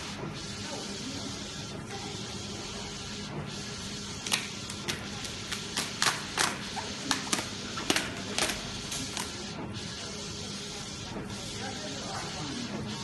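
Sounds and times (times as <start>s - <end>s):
printer running with hiss: 0.0s - 13.0s.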